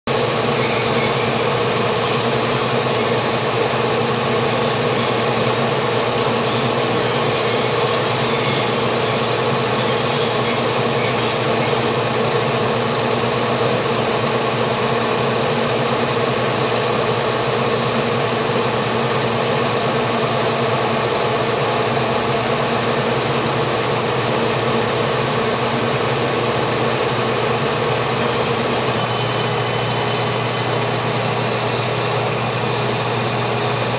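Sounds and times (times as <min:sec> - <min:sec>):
machinery humming: 0:00.1 - 0:33.9.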